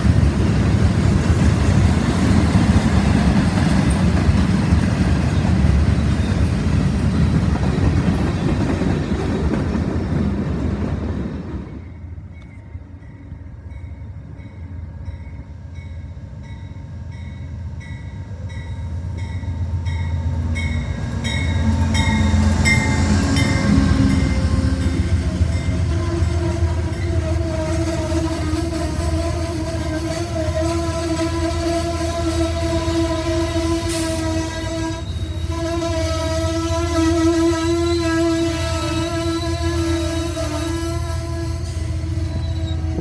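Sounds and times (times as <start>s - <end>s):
freight train rolling past: 0.0s - 43.0s
passenger train passing: 0.0s - 43.0s.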